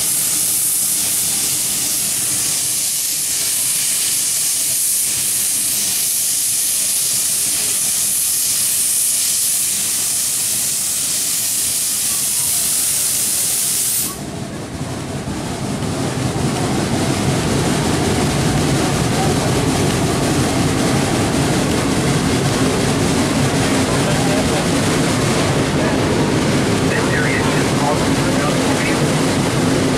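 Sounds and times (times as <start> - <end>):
steam locomotive hissing: 0.0 - 14.6, 15.2 - 29.9
train running noise: 0.0 - 29.9.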